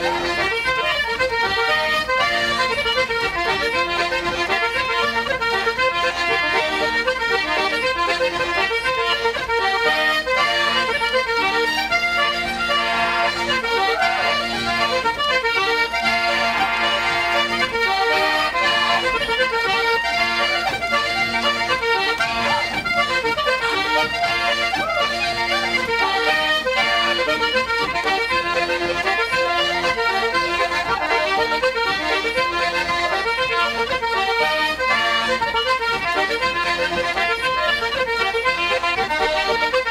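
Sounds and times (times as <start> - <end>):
lively instrumental folk tune: 0.0 - 39.9.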